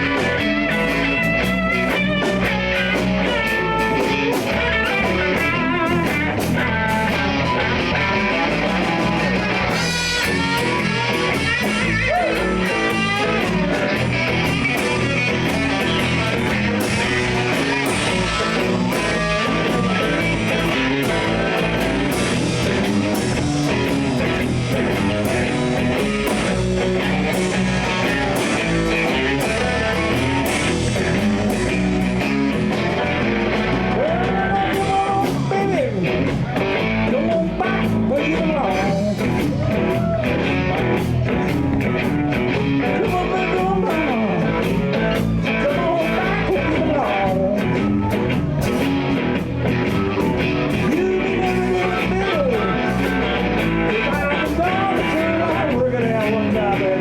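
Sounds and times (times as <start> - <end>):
lead guitar line bending pitch: 0.0 - 57.0
live blues band playing: 0.0 - 57.0.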